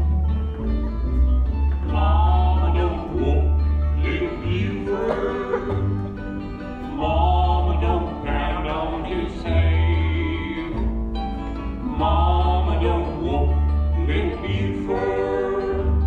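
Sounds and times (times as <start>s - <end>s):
pulsing bass line: 0.0s - 16.0s
voices singing country music: 0.0s - 16.0s.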